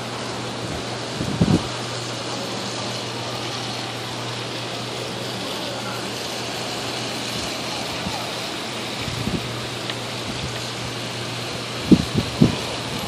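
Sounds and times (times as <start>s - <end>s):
rushing wind and snow: 0.0s - 5.5s, 6.2s - 13.0s
low electrical hum: 0.0s - 13.0s.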